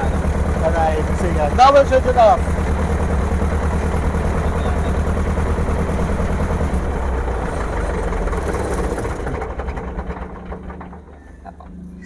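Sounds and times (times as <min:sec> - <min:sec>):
propeller plane engine idling: 0:00.0 - 0:12.0.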